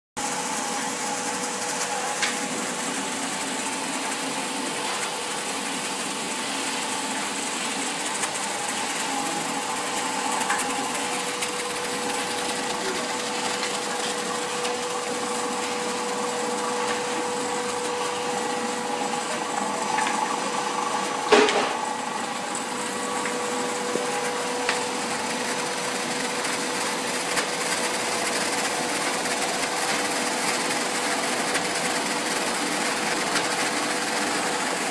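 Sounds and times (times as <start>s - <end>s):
laminator mechanical hum: 0.2s - 34.9s.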